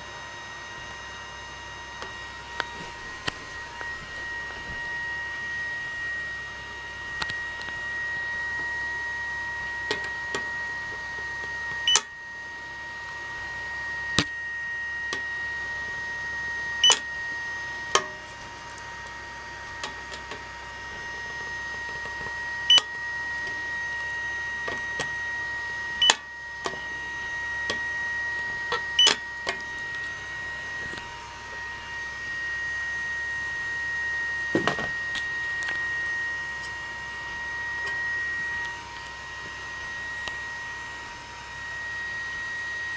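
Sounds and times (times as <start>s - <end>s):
steady high-pitched tone: 0.0s - 42.9s.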